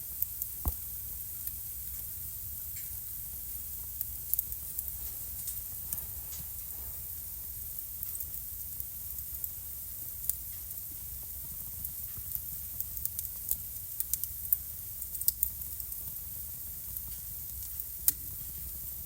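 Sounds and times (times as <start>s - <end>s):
steady hiss: 0.0s - 19.0s
wood fire crackling and popping: 0.0s - 19.0s.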